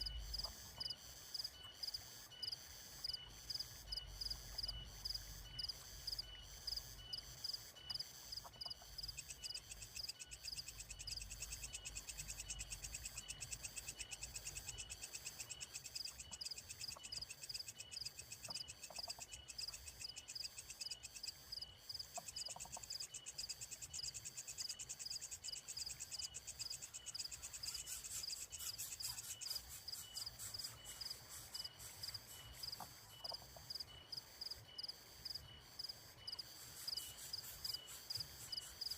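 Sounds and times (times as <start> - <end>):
high chirps of crickets and frogs: 0.0 - 38.9.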